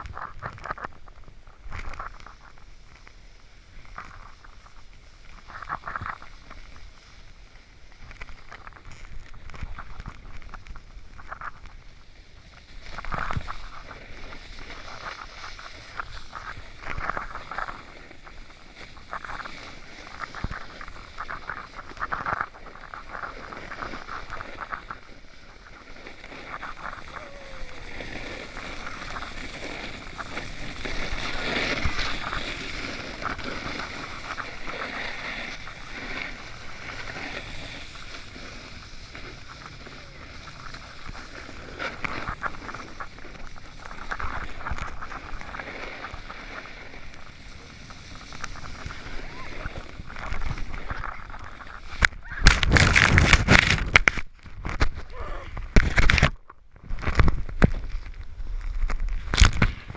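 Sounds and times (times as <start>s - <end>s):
snowboard scraping over snow: 0.0s - 56.3s
wind on microphone: 8.2s - 59.9s.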